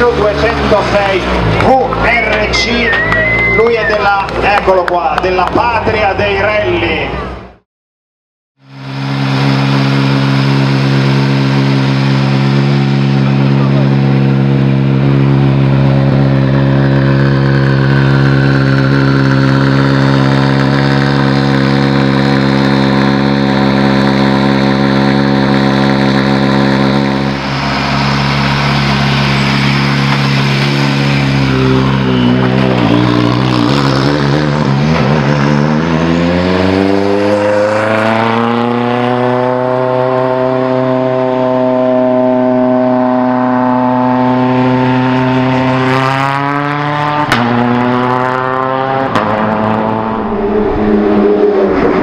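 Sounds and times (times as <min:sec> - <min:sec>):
rally car engine running: 0:00.0 - 0:07.6, 0:08.6 - 0:52.0.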